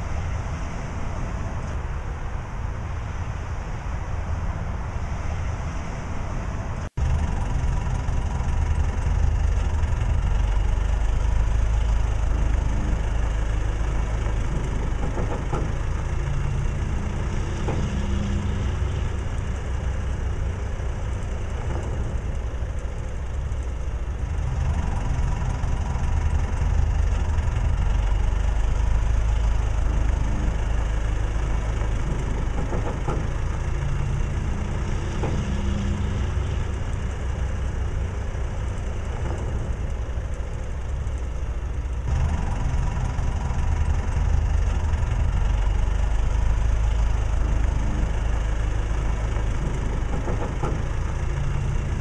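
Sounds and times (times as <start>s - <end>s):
tow tractor engine rumbling: 0.0s - 52.0s.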